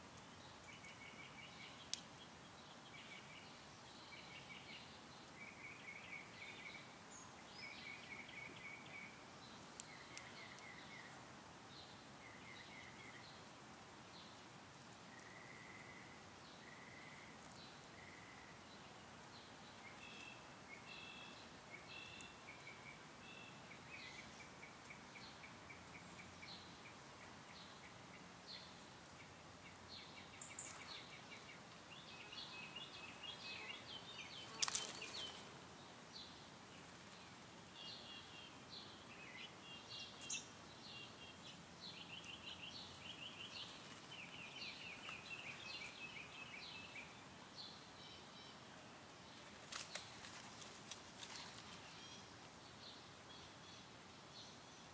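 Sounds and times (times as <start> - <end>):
songbirds chirping and trilling: 0.0 - 54.9.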